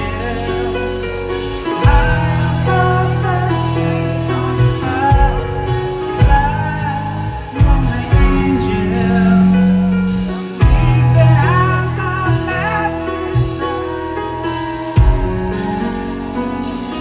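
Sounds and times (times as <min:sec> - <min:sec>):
hard rock band playing: 0:00.0 - 0:17.0
man singing: 0:00.0 - 0:17.0.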